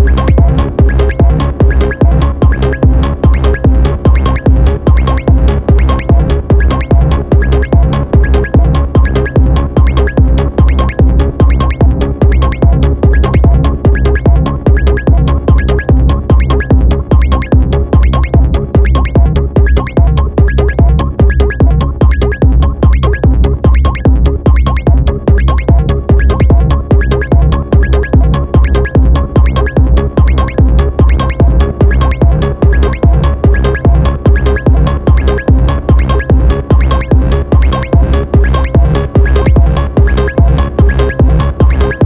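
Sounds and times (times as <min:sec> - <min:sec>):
drum-machine beat: 0:00.0 - 0:42.0
heavy synth bass line: 0:00.0 - 0:42.0
pitched synth parts: 0:00.0 - 0:42.0.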